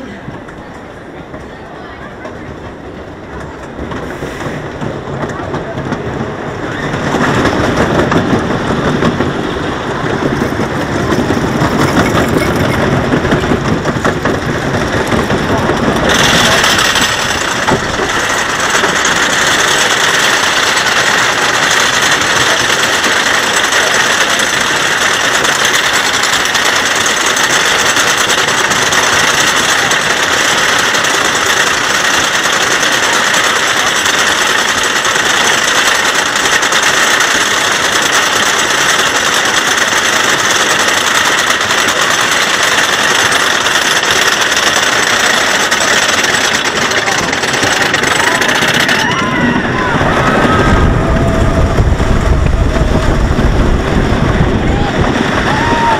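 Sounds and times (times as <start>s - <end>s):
roller coaster lift chain clatter: 0.0s - 55.9s.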